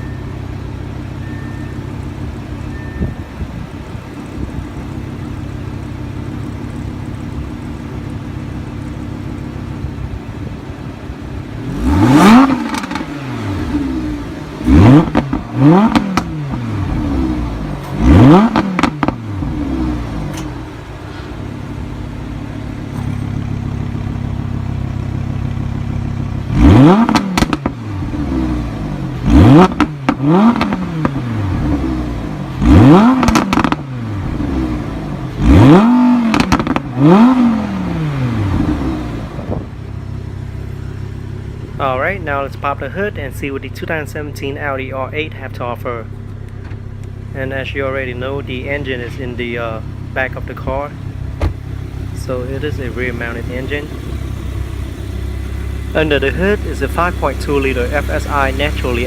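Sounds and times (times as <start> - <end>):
car engine idling: 0.0 - 59.0
car engine throttle blips: 0.0 - 59.0.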